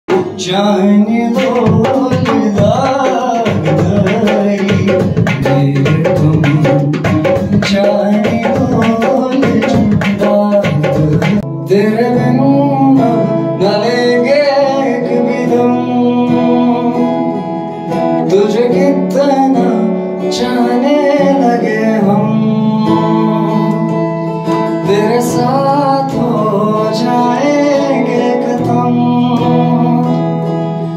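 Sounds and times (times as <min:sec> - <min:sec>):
man singing into a microphone: 0:00.1 - 0:30.9
strummed guitar: 0:00.1 - 0:30.9.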